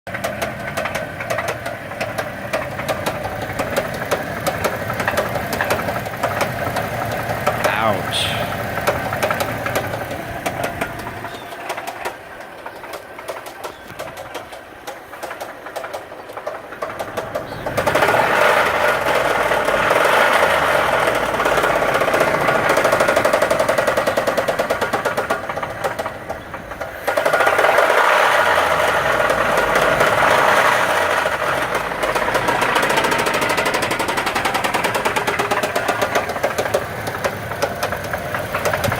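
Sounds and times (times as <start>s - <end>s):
engine running with rod knock: 0.0s - 38.9s.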